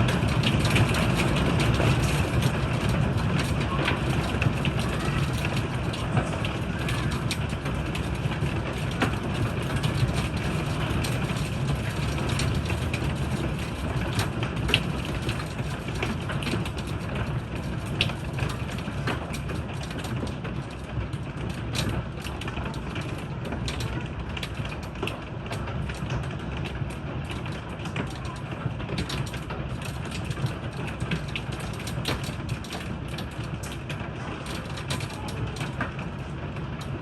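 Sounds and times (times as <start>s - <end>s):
hail clattering on hard surfaces: 0.0s - 37.0s
heavy rain rushing: 0.0s - 37.0s.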